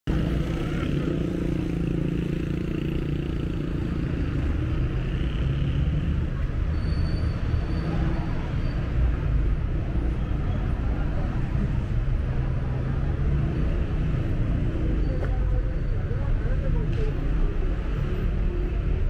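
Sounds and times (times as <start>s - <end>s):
motorcycle and car engines passing: 0.1s - 19.0s.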